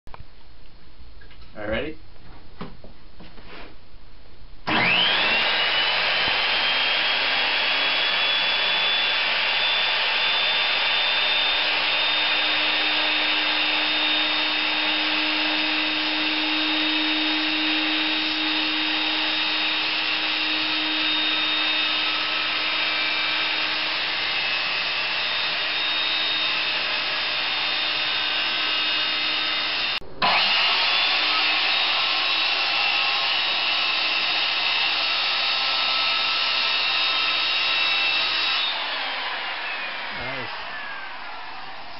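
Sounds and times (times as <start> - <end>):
electric jigsaw sawing: 4.7 - 41.9.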